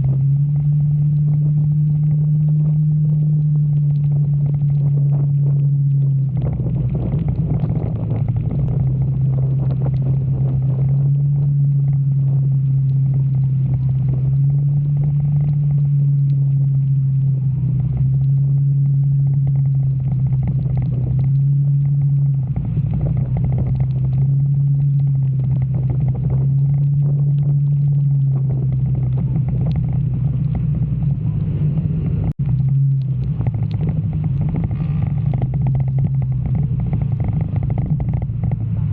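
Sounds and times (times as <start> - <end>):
motorcycle engine running: 0.0 - 38.9
rain: 0.0 - 38.9
wind on microphone: 0.0 - 38.9.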